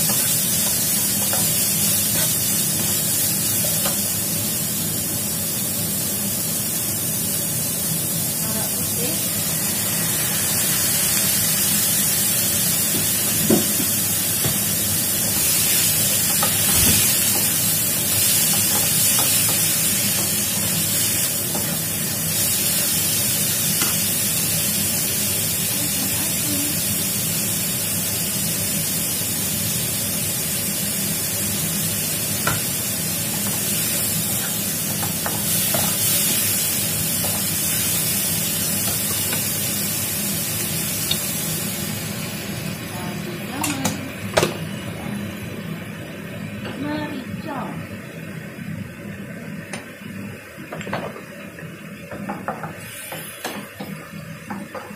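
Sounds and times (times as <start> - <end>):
meat sizzling in a wok: 0.0 - 54.9.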